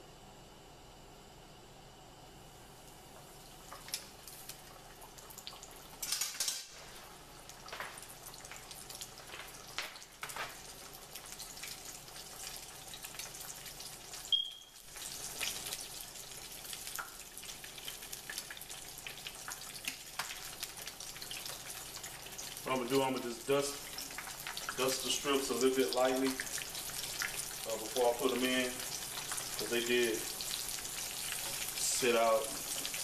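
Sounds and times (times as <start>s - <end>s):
frying grease crackling and sizzling: 3.1s - 33.0s.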